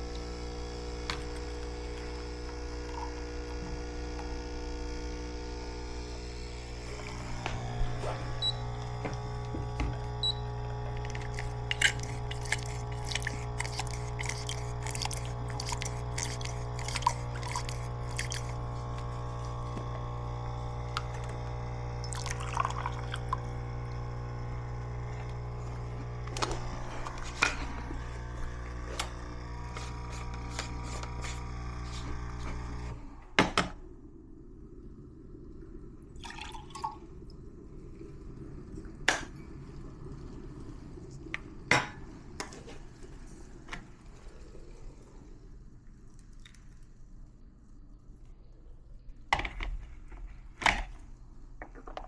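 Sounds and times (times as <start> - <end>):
electric kettle heating water: 0.0 - 45.9, 48.7 - 52.0.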